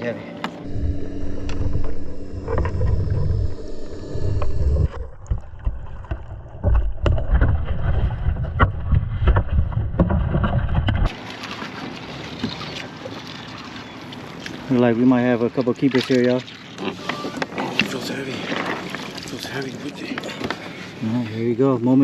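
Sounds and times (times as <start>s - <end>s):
water sounds: 0.6s - 22.0s.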